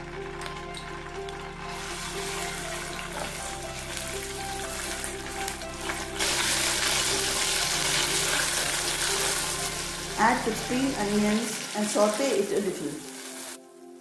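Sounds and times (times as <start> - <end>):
paste sizzling in hot oil: 1.7 - 13.7.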